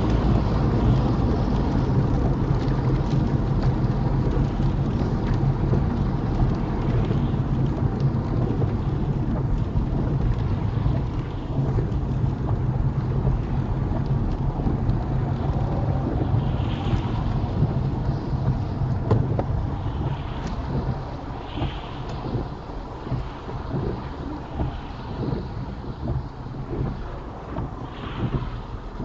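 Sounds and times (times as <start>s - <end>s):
rain hitting windscreen: 0.0s - 29.0s
road and tyre rumble in car: 0.0s - 29.0s.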